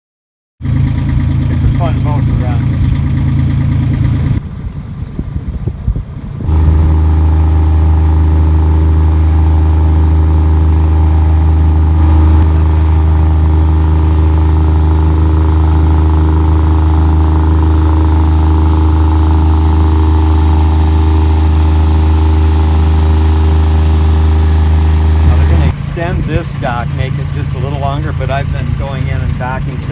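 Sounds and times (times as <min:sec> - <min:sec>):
boat engine running: 0:00.6 - 0:29.9
uneven low rumble: 0:00.9 - 0:29.9.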